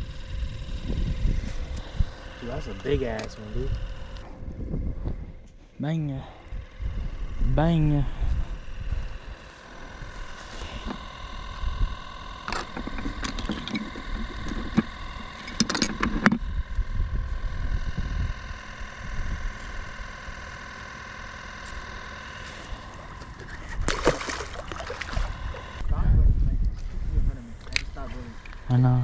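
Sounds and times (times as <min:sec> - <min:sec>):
steady high-pitched hum: 0:00.0 - 0:29.0.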